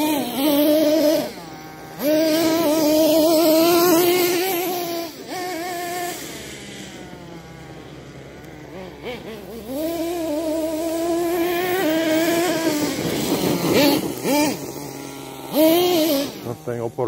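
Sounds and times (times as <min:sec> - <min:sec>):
rc truck engine whining: 0:00.0 - 0:17.0.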